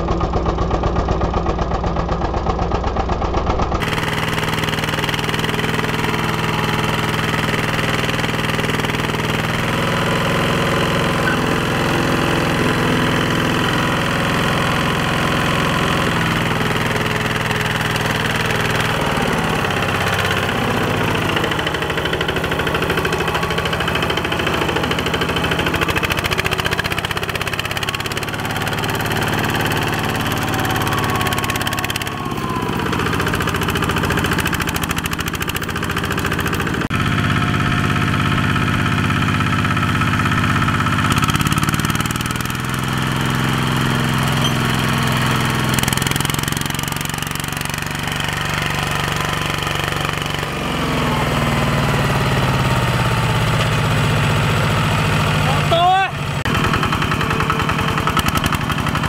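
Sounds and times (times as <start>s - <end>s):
walking tractor engine running: 0.0s - 59.0s.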